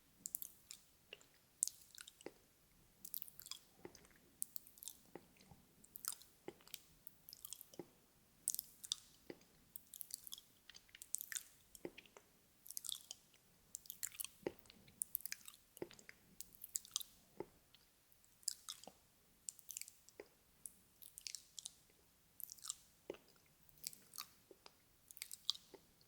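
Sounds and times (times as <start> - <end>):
chewing noises: 0.2 - 2.4, 3.0 - 25.9
wet mouth clicks and smacks: 3.0 - 7.9, 8.5 - 25.9.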